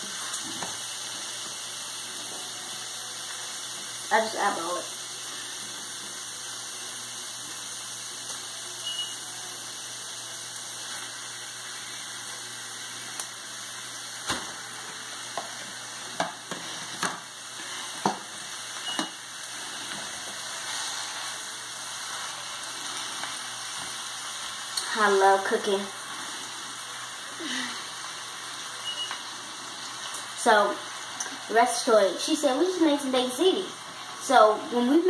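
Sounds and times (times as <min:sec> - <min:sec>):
food sizzling in a skillet: 0:00.0 - 0:35.0.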